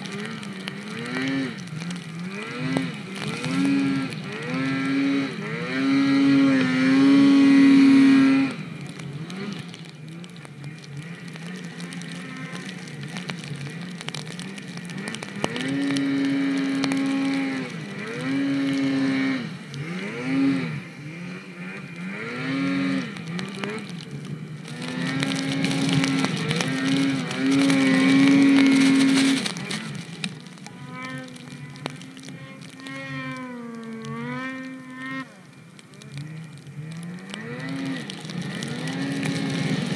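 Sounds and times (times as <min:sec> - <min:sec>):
snowmobile engine revving: 0:00.0 - 0:39.9
track and snow hiss: 0:00.0 - 0:39.9.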